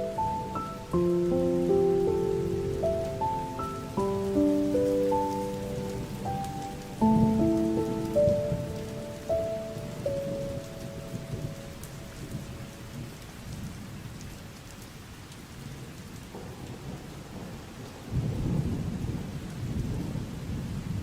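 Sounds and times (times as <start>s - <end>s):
low rumble of thunder: 0.0s - 14.2s, 15.7s - 21.0s
steady rain: 0.0s - 21.0s.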